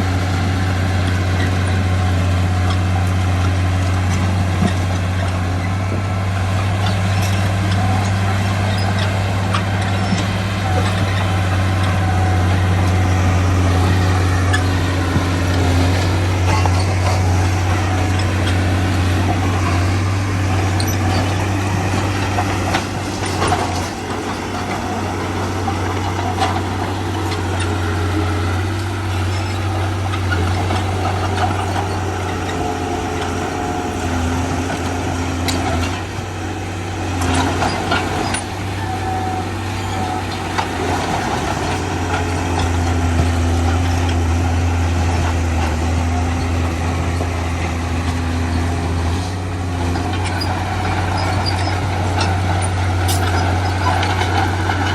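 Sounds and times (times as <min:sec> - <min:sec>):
heavy diesel machinery engine hum: 0:00.0 - 0:54.9.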